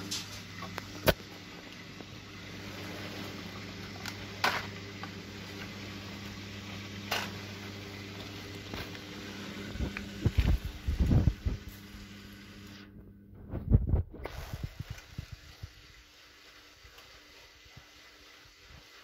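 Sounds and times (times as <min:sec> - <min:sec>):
washing machine swishing: 0:00.0 - 0:01.6, 0:02.2 - 0:12.8, 0:13.4 - 0:19.0
washing machine humming: 0:00.0 - 0:19.0.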